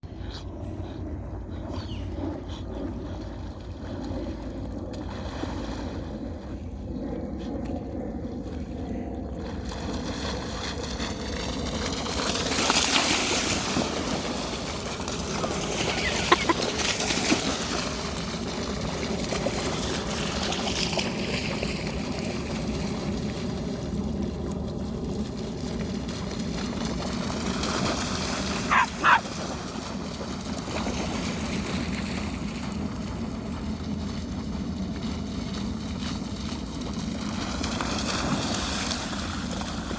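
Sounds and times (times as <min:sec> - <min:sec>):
river water splashing: 0:03.1 - 0:06.6, 0:09.5 - 0:23.8, 0:25.1 - 0:39.9.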